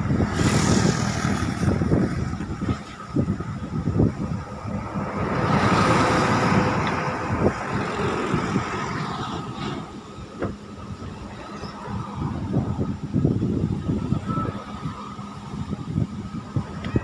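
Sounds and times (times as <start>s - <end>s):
aircraft engines passing: 0.0s - 17.0s.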